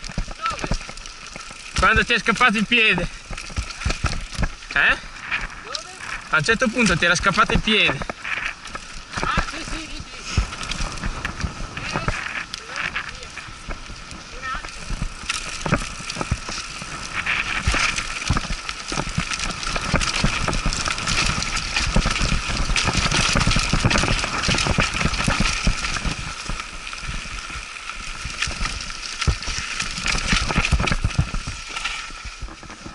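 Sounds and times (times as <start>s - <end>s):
bike rattling over bumps: 0.0s - 32.9s
bike tyres crunching on dirt: 0.0s - 32.9s.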